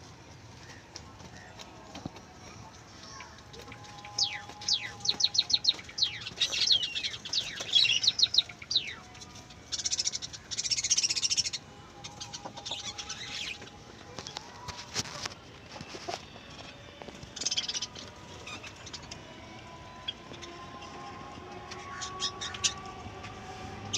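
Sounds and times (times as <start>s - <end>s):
small birds chirping: 0.6s - 15.2s, 15.8s - 21.0s.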